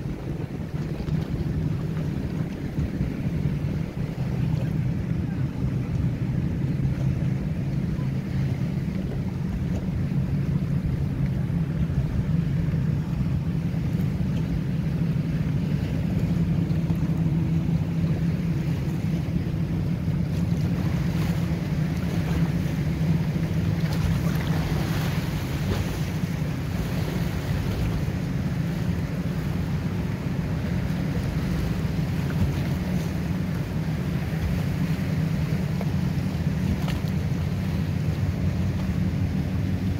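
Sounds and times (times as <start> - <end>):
choppy water: 0.0 - 39.9
motorboat engines droning: 0.0 - 39.9
wind buffeting microphone: 0.0 - 39.9.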